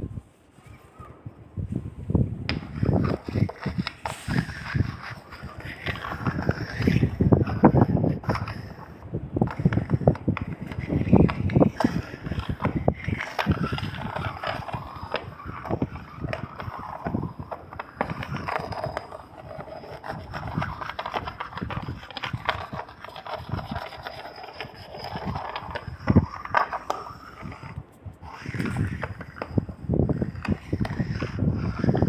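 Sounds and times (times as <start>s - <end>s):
wood creaking and scraping: 2.4s - 32.0s.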